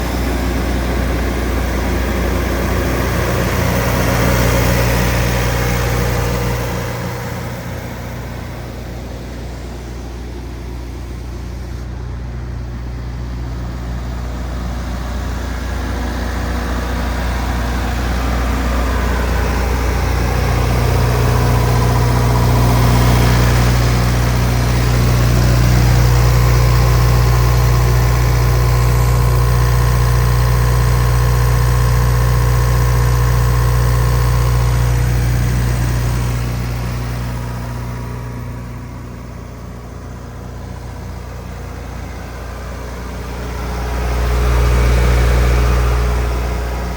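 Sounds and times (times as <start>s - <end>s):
diesel generator running: 0.0s - 46.9s.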